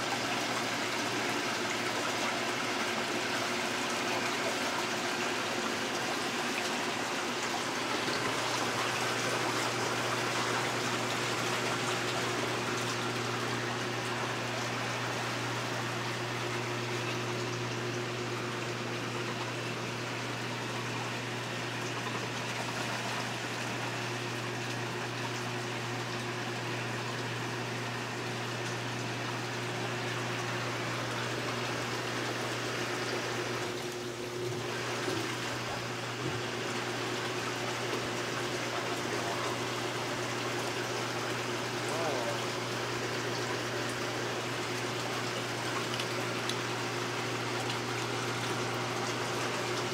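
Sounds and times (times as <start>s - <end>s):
pump motor humming: 0.0s - 49.9s.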